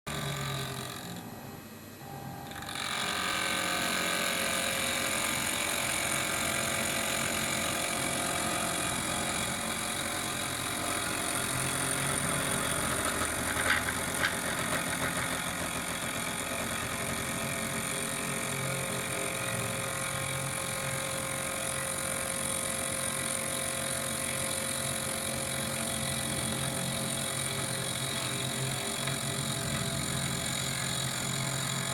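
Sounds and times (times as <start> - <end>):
machine running with whining tones: 0.1 - 31.9.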